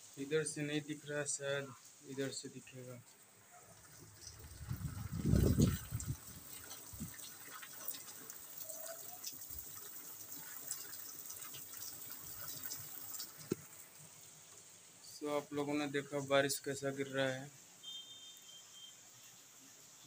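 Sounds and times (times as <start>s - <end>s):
rain falling: 0.0s - 17.9s.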